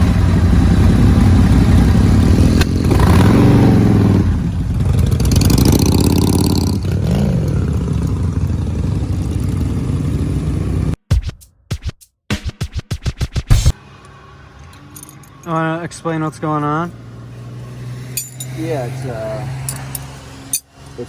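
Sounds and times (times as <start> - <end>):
motorcycle engine revving: 0.0 - 11.0, 14.7 - 21.0.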